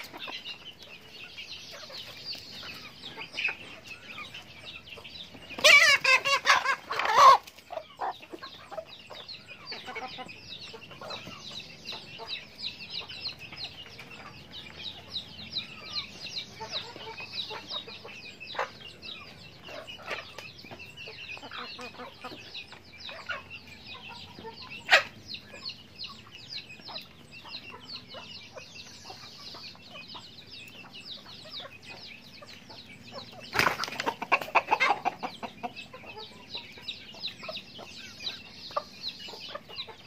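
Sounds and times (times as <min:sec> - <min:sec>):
chickens clucking and chirping: 0:00.0 - 0:40.0.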